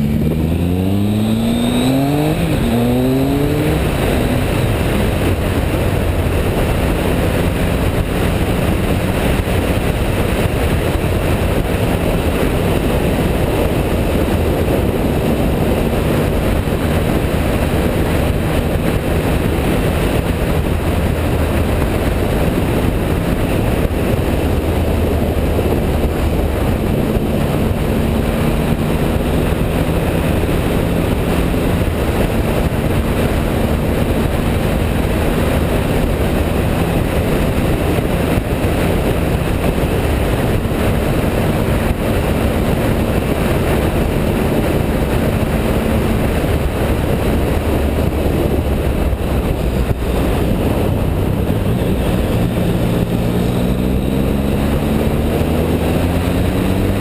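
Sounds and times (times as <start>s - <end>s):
motorcycle engine cruising: 0.0s - 57.0s
wind rush on microphone: 0.0s - 57.0s.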